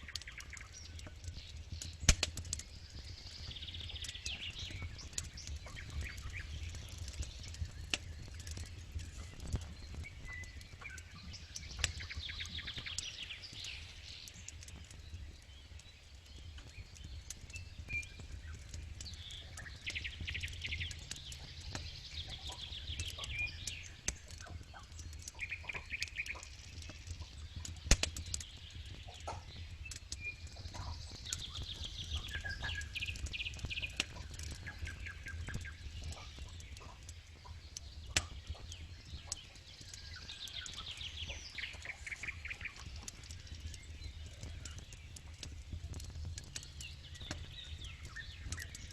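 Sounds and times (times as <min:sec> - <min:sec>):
birds chirping: 0:00.0 - 0:48.9
campfire crackling: 0:00.0 - 0:48.9.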